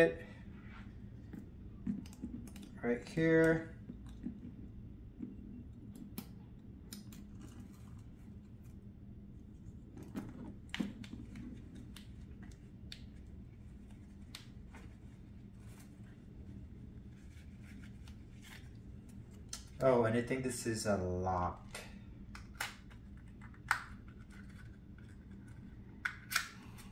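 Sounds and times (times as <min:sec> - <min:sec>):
low room hum: 0:00.0 - 0:26.9.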